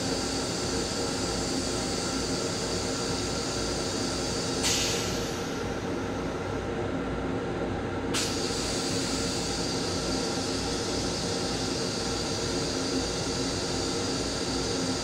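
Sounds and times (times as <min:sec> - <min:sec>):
railcar running rumble: 0:00.0 - 0:07.3, 0:08.1 - 0:15.0
train toilet flushing: 0:00.1 - 0:05.9, 0:08.1 - 0:15.0.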